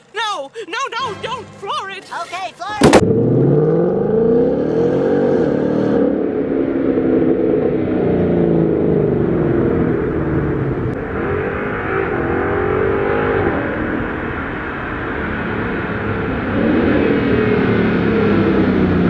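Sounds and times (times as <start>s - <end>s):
car engine revving at full throttle: 2.8s - 19.0s.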